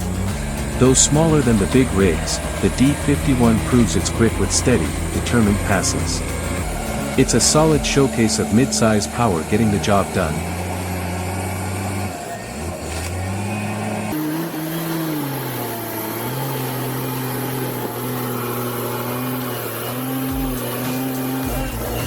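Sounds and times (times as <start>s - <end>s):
bulldozer diesel engine under load: 0.0s - 22.0s.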